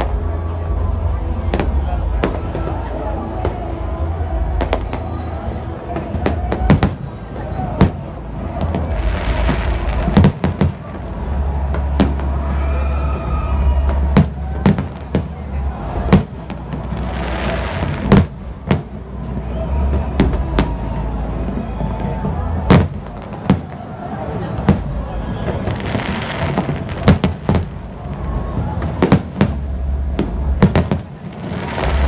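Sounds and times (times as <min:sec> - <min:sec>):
fireworks bursting: 0:00.0 - 0:32.0.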